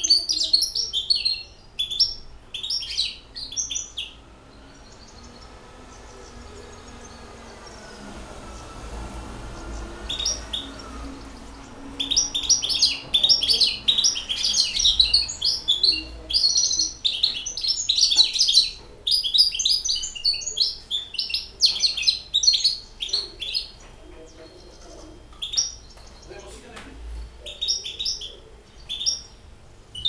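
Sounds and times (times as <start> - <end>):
finch singing high chirps: 0.0 - 26.6, 27.2 - 30.0.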